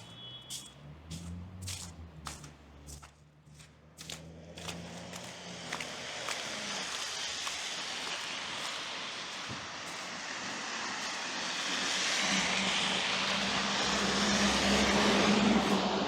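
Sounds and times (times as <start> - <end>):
passing engine hum and rush: 0.0 - 16.0.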